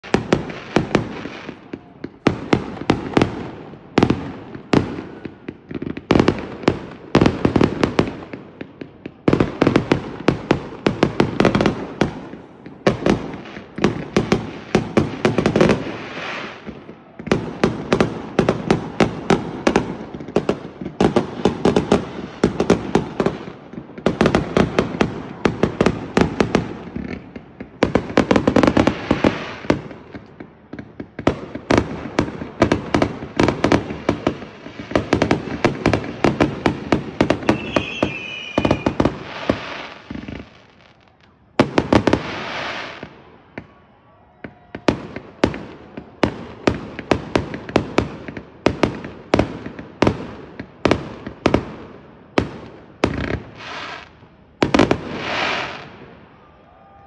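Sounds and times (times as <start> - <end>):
fireworks bursts and bangs: 0.0 - 57.0.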